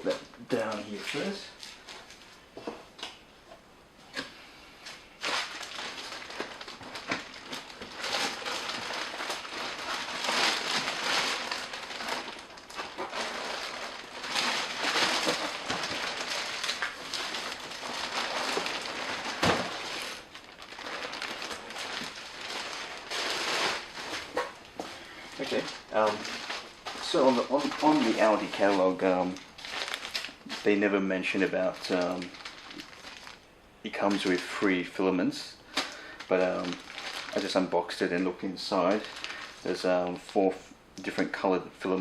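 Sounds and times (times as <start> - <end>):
plastic wrap crinkling: 0.0 - 2.5, 4.2 - 35.0, 35.7 - 40.4.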